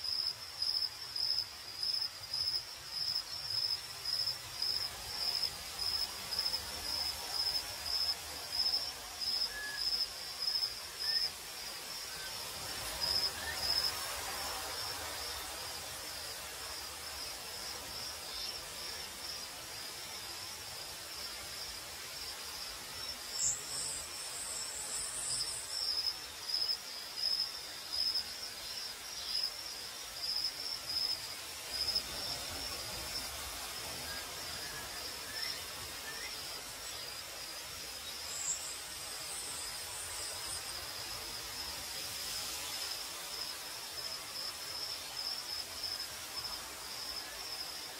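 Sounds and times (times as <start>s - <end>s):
crickets chirping: 0.0s - 47.9s
faint background hiss: 0.0s - 47.9s.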